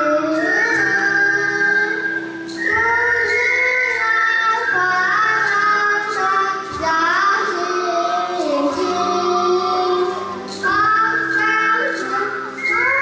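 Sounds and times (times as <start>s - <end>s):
children singing in unison: 0.0s - 13.0s
recorded musical accompaniment: 0.0s - 13.0s.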